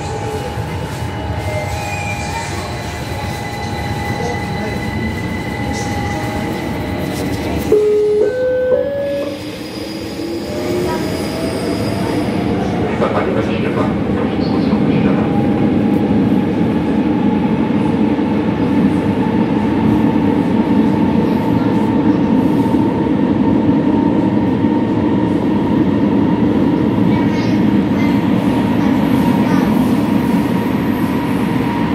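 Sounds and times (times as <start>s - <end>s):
train rumble: 0.0s - 31.9s.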